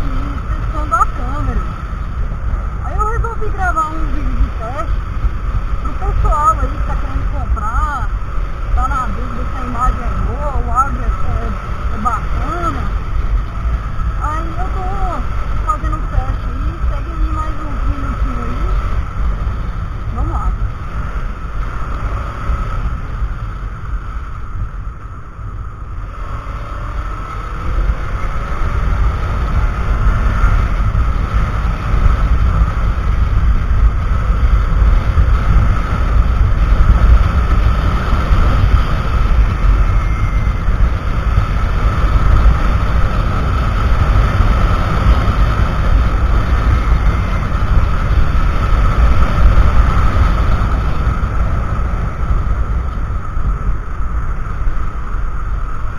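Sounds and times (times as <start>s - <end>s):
motorcycle engine running: 0.0s - 55.9s
wind rumble on microphone: 0.0s - 55.9s.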